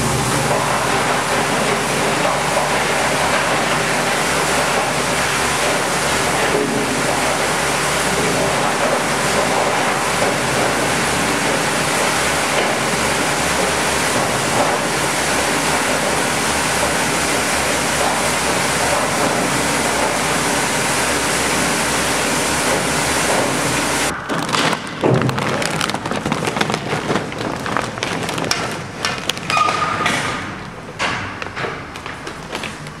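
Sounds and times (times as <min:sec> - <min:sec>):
granulator grinding plastic: 0:00.0 - 0:30.8.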